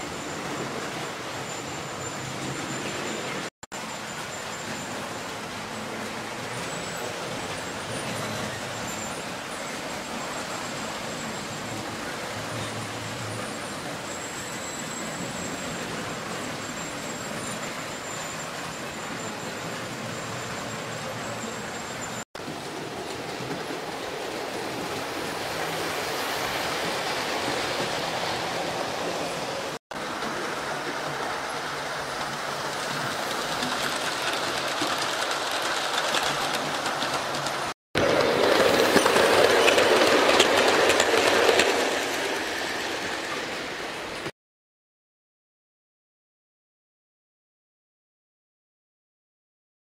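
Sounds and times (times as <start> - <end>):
wheels clicking over rail joints: 0.1 - 44.3.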